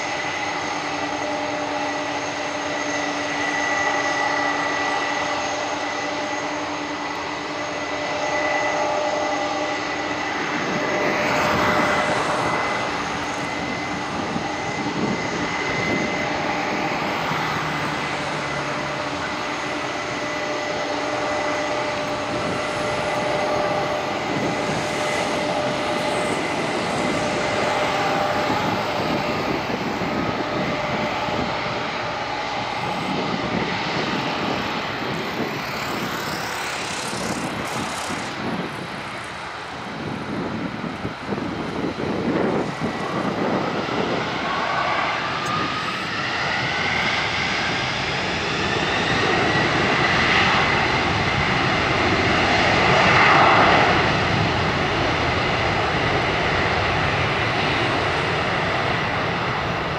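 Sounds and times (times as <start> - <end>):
jet engines running: 0.0 - 59.9
jet engines spooling up whine: 0.0 - 59.9.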